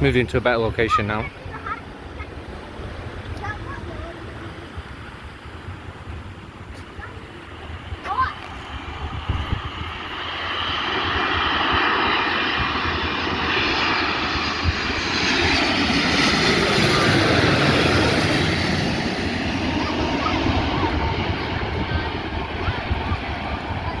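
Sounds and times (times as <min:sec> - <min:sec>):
jet engines rushing: 0:00.0 - 0:24.0
wind buffeting microphone: 0:00.0 - 0:24.0.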